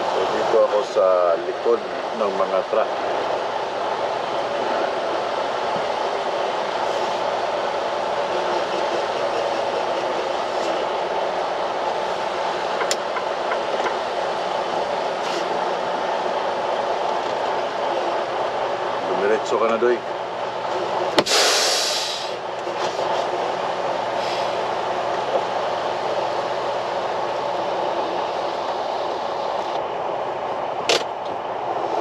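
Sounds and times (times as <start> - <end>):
truck engine and road noise: 0.0 - 32.0.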